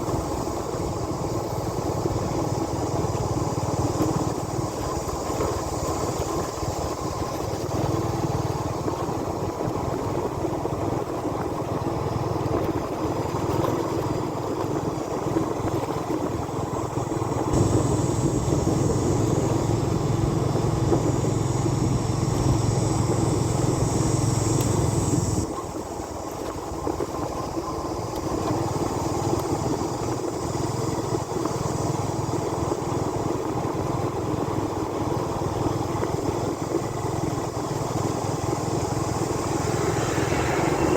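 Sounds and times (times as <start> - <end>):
motorbike engine running: 0.0 - 40.9.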